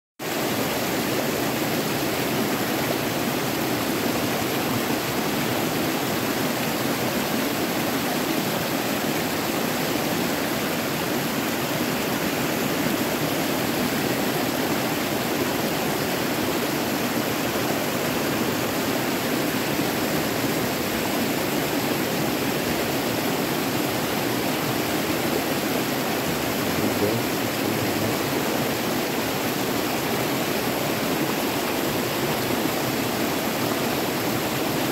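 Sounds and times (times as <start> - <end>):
river water rushing: 0.2 - 34.9.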